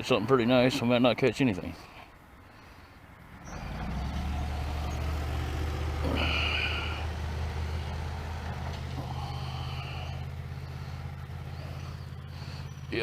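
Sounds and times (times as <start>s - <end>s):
truck engine drone: 1.7s - 13.0s.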